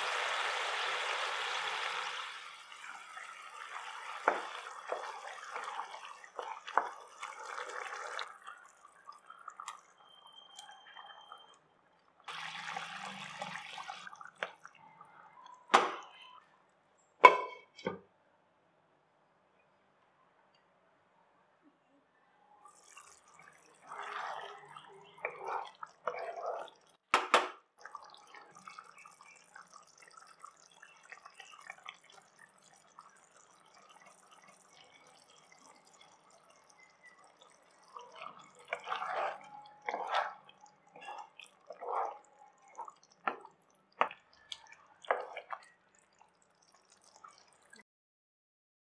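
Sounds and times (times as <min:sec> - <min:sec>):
curry bubbling in a pan: 0:00.0 - 0:11.6, 0:12.2 - 0:16.2, 0:22.6 - 0:47.8.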